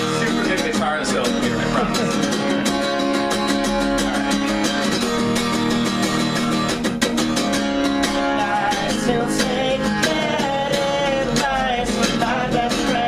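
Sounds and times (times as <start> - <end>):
live rock band playing: 0.0 - 13.0
strummed guitars: 0.0 - 13.0.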